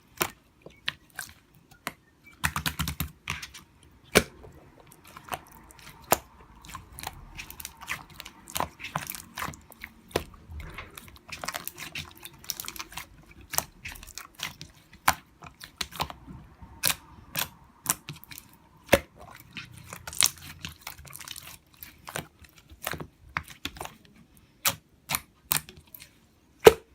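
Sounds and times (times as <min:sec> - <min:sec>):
slime squished by hand: 0:01.0 - 0:24.0.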